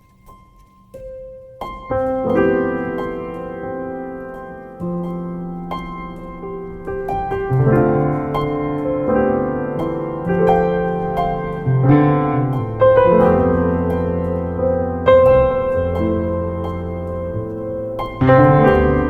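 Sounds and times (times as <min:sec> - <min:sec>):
calm piano music: 0:00.0 - 0:19.0.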